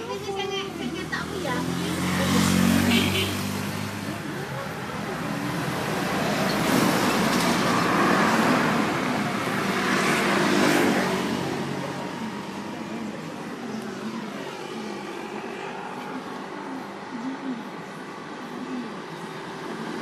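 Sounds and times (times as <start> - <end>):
steady traffic rumble: 0.0 - 20.0
vehicle passing close by: 0.8 - 17.6.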